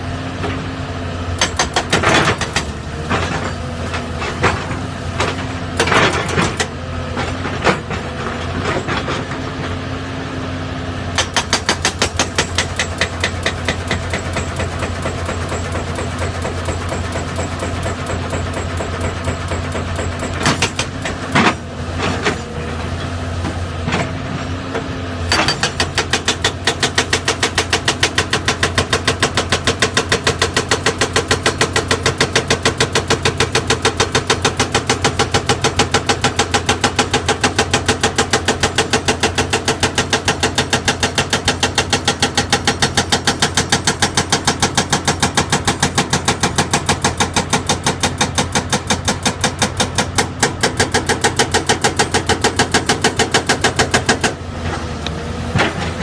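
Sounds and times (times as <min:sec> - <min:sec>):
diesel engine running: 0:00.0 - 0:56.0
hydraulic breaker hammering rock: 0:01.3 - 0:09.9, 0:11.1 - 0:54.6.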